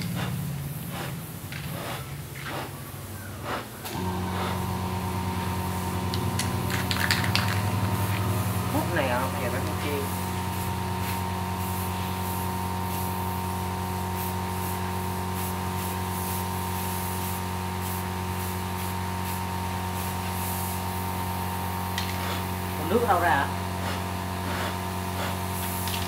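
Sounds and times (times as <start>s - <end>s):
steady low hum: 0.0s - 26.0s
aerosol spray can hissing: 3.4s - 23.1s, 23.8s - 26.0s.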